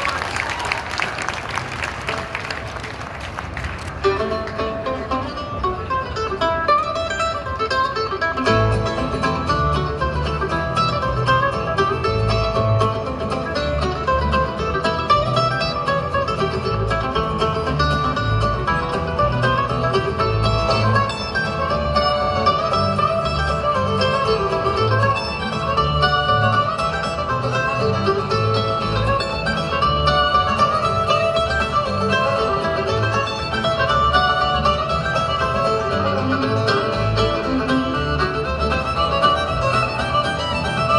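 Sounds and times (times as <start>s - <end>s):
mandolin picking: 3.5s - 40.9s
banjo picking: 3.9s - 40.9s
acoustic guitars picking: 4.0s - 40.9s
plucked upright bass: 4.0s - 40.9s.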